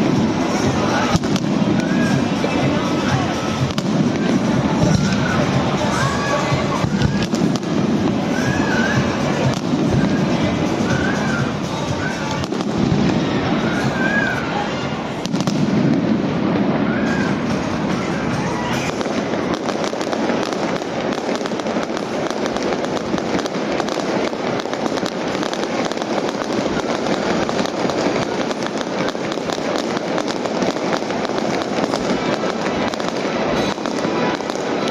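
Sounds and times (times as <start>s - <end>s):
crackling firework bursts: 0.0s - 34.9s
firework booms: 0.0s - 34.9s.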